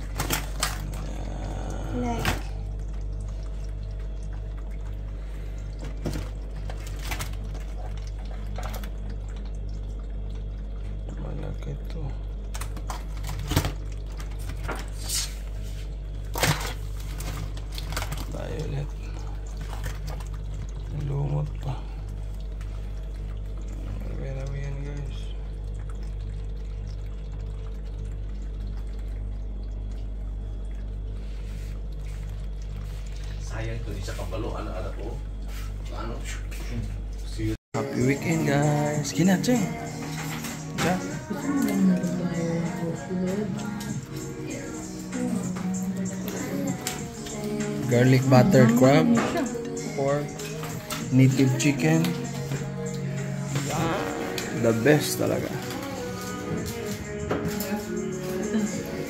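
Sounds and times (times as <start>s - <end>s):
steady low hum: 0.0s - 59.0s
water trickling into metal sink: 0.0s - 59.0s.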